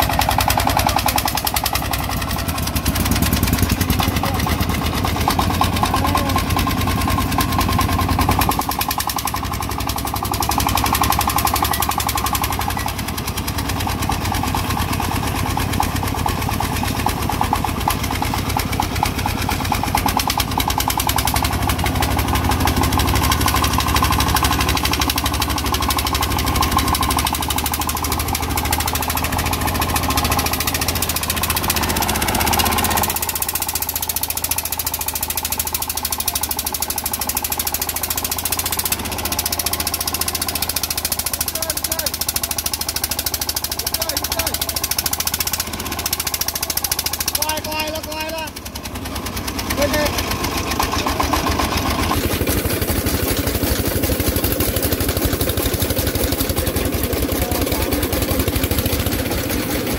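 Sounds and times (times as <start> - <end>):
diesel tractor engine knocking: 0.0 - 59.9.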